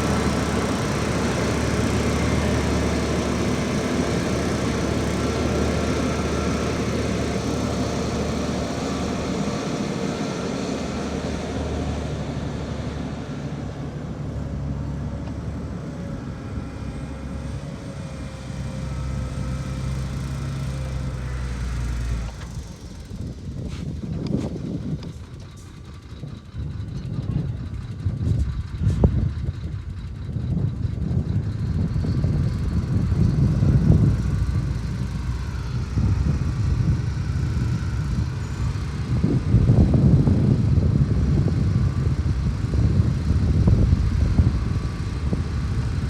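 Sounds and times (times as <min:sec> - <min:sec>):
heavy diesel engine under load: 0:00.0 - 0:46.0.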